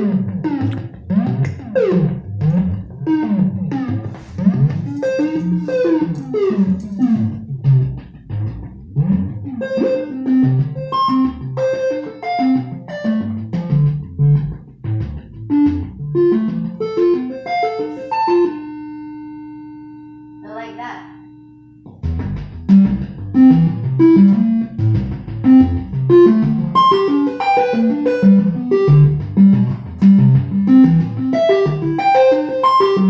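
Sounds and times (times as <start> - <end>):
low repeating bass notes: 0.0 - 18.6, 21.8 - 33.0
synthesizer plucked notes: 0.0 - 33.0.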